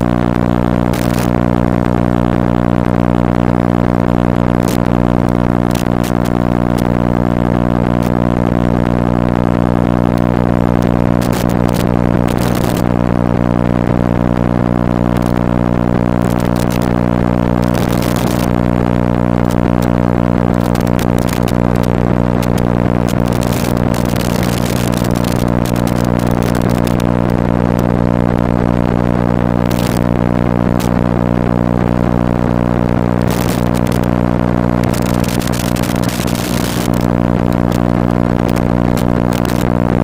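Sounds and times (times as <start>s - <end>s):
static crackles: 0.0s - 40.0s
steady low buzz: 0.0s - 40.0s.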